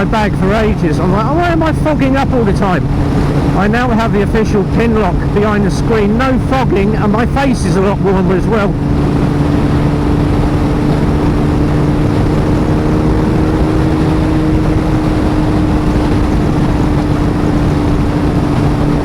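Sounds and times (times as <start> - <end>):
motorcycle engine cruising: 0.0 - 19.0
wind noise: 0.0 - 19.0.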